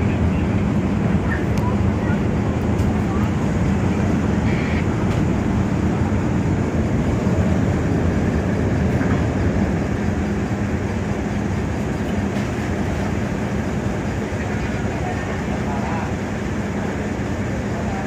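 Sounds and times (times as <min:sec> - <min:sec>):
ship engine rumbling: 0:00.0 - 0:18.0.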